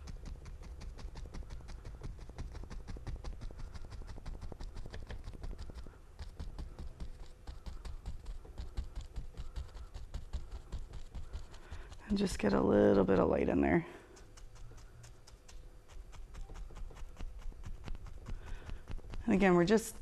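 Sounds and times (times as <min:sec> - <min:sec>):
brush tapping on canvas: 0:00.0 - 0:19.8.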